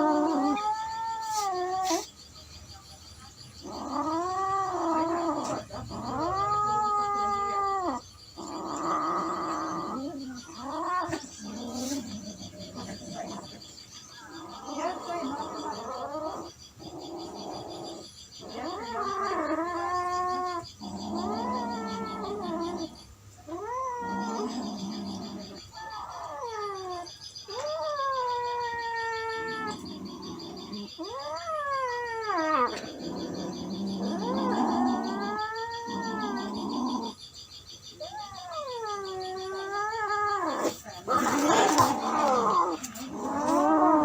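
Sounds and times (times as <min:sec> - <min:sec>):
cats yowling: 0:00.0 - 0:02.2, 0:03.5 - 0:37.3, 0:37.9 - 0:44.0
cats growling: 0:00.0 - 0:44.0.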